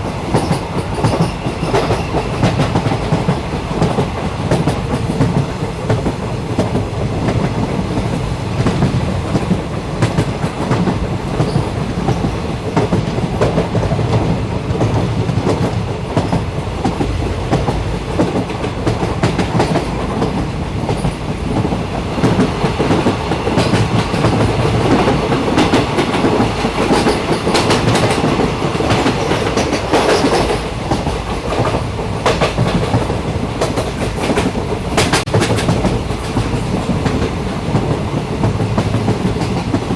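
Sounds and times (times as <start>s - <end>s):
train rumbling on track: 0.0s - 39.9s
wheels clacking over rail joints: 0.3s - 39.9s.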